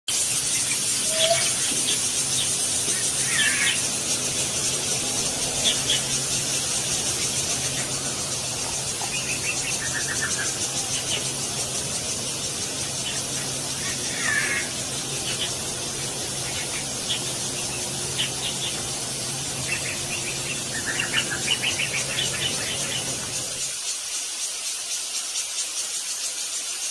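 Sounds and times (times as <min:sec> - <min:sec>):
steady high hiss: 0:00.1 - 0:26.9.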